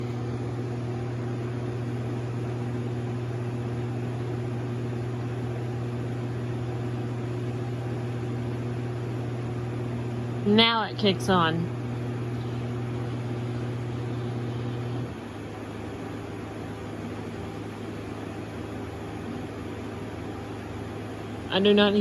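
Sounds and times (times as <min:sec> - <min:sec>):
air conditioner humming: 0:00.0 - 0:22.0
fan hiss: 0:00.0 - 0:22.0.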